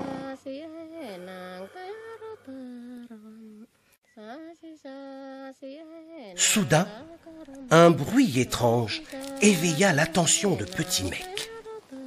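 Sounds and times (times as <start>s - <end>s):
person humming a lullaby: 0.0s - 5.4s, 6.0s - 12.0s.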